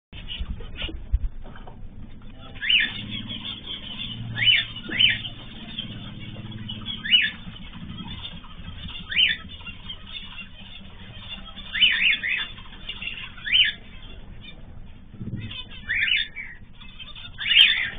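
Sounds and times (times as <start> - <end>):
birds chirping: 0.2 - 17.9
low steady hum: 0.2 - 17.9.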